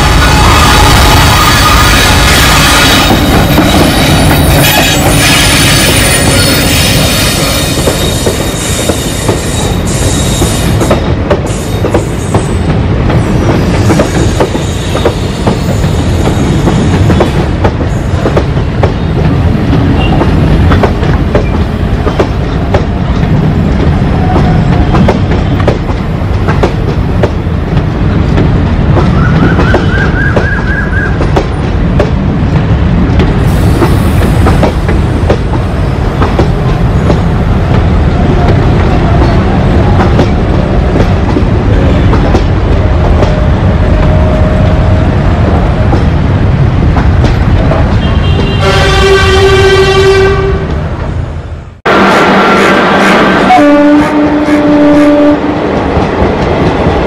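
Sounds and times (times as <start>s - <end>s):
continuous train rumble: 0.0s - 57.0s.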